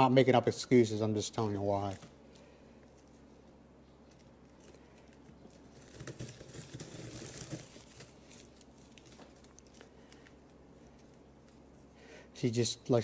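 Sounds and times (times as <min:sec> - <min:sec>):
bubble wrap crinkling: 0:01.4 - 0:12.0.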